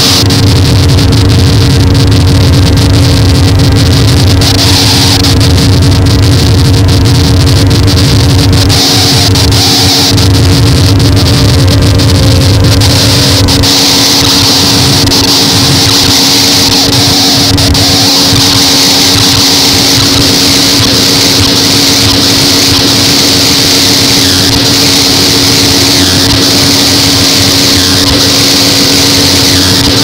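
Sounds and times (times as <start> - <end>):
crackle: 0.0 - 30.0
deep rumble: 0.0 - 30.0
distorted electronic noise: 0.0 - 30.0
steady humming tones: 0.0 - 30.0.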